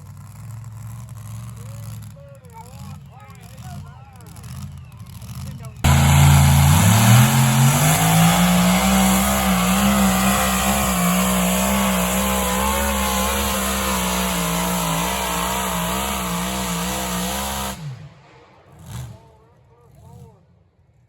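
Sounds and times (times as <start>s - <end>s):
engine at full throttle: 0.0s - 19.2s.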